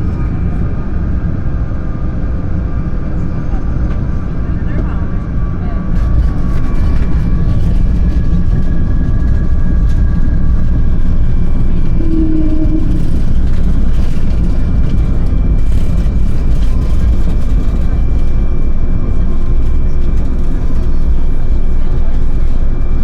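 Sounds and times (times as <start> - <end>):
faint whining jet engines: 0.0 - 23.0
jet airliner landing rumble: 0.0 - 23.0.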